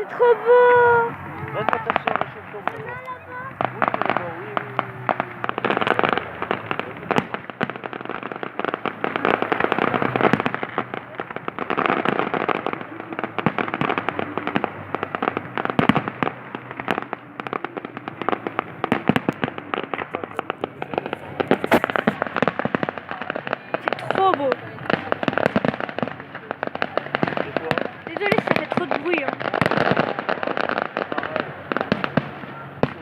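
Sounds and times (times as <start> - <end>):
fireworks crackling and popping: 0.0 - 33.0
loud firework bangs: 0.0 - 33.0.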